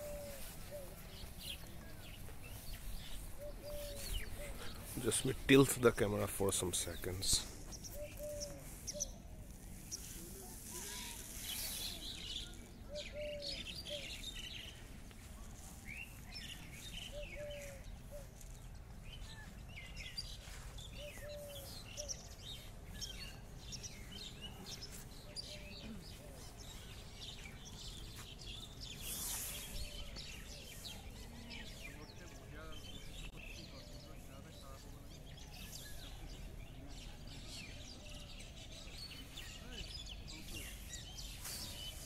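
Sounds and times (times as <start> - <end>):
background hiss: 0.0 - 19.2, 19.9 - 31.4, 38.6 - 42.0
birds chirping and singing: 0.0 - 42.0.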